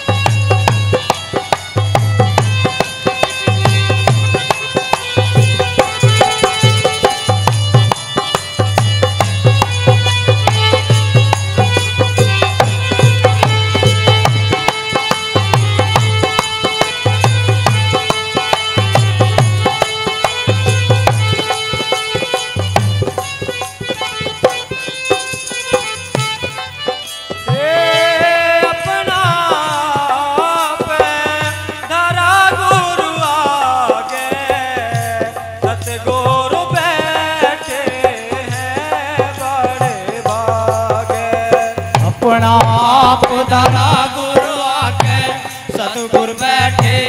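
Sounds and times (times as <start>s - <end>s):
clattering percussion: 0.0s - 47.0s
hand drum rhythm: 0.0s - 47.0s
instrumental melody: 0.0s - 47.0s.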